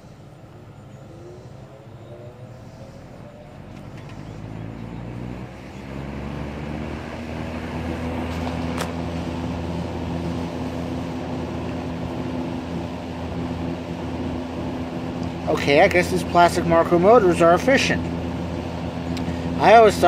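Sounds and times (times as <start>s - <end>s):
box fan motor hum: 0.0s - 20.0s.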